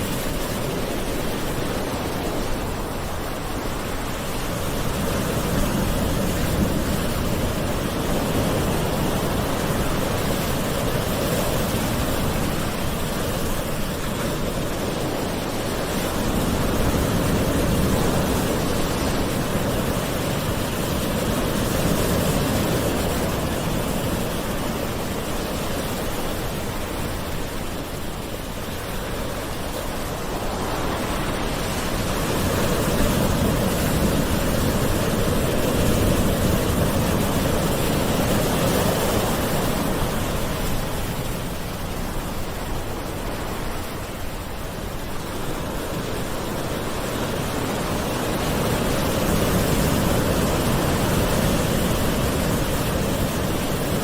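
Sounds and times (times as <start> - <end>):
ocean waves washing: 0.0 - 54.0.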